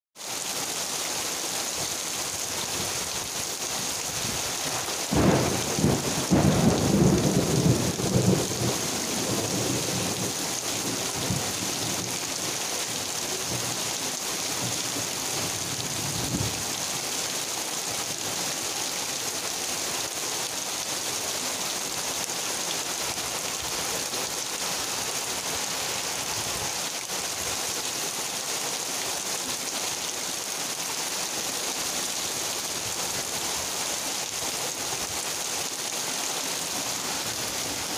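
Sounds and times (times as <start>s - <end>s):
heavy rain pouring: 0.2s - 37.9s.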